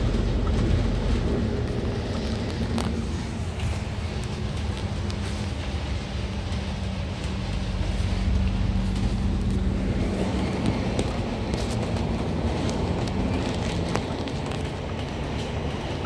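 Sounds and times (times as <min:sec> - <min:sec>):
bus engine drone: 0:00.0 - 0:16.0
road rumble: 0:00.0 - 0:16.0.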